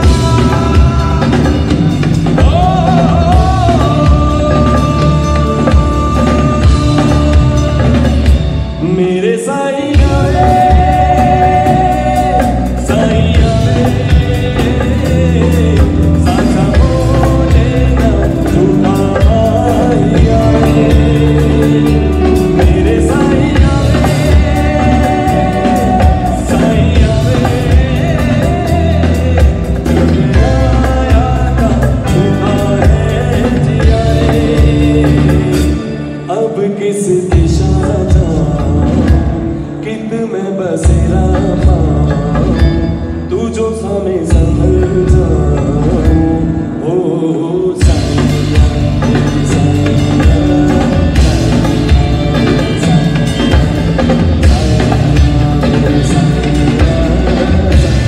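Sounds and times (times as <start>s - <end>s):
live band with drums and bass: 0.0s - 58.0s
person singing: 0.0s - 58.0s.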